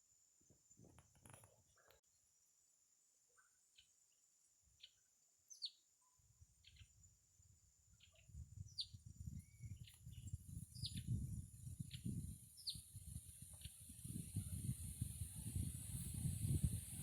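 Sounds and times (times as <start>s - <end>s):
small songbirds chirping: 3.3s - 17.0s.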